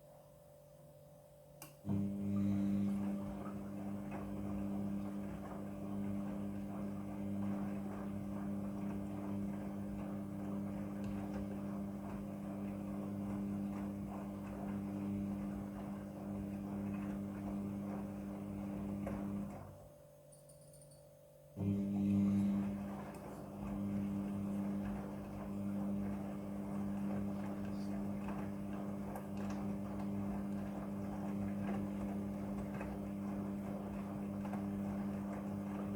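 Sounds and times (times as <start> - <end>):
washing machine motor hum: 0.0 - 35.9.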